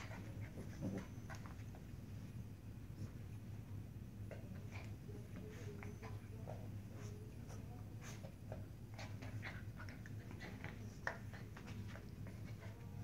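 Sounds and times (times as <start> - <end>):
puppy noises: 0.0 - 1.9, 4.3 - 13.0.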